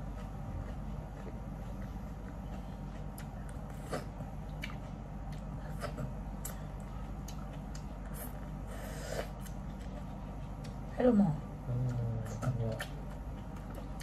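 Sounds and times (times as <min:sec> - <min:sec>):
chewing and smacking: 0:00.0 - 0:10.9, 0:11.7 - 0:14.0
steady low hum: 0:00.0 - 0:14.0.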